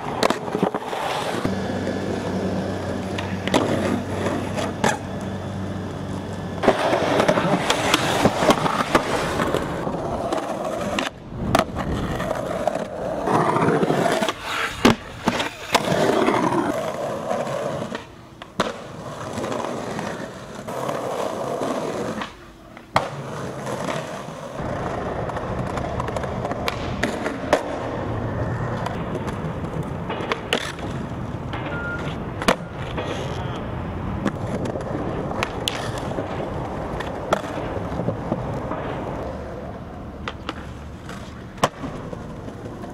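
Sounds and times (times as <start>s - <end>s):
skateboard popping and landing: 0.0s - 42.9s
skateboard wheels rolling on concrete: 0.0s - 42.9s.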